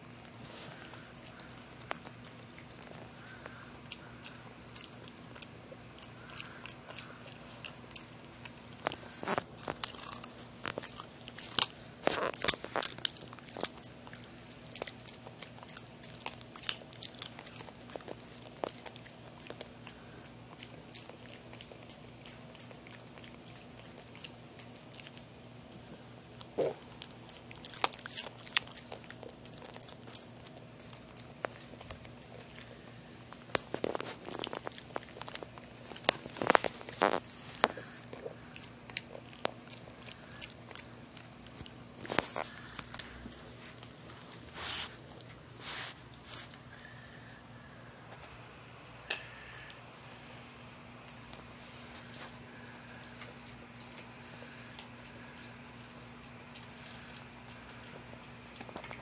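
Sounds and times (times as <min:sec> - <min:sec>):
dog crunching carrot: 0:00.0 - 0:46.9, 0:49.6 - 0:59.0.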